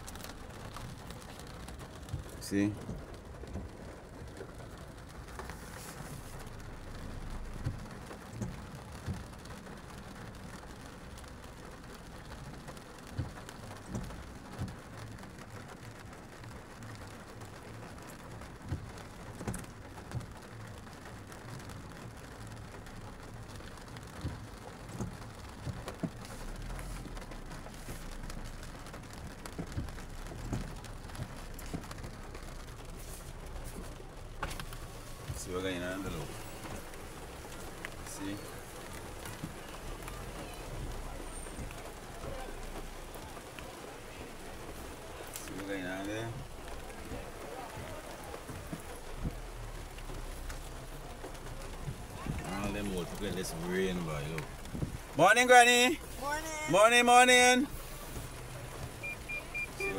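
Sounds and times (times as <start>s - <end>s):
rain pattering on car roof: 0.0s - 59.9s.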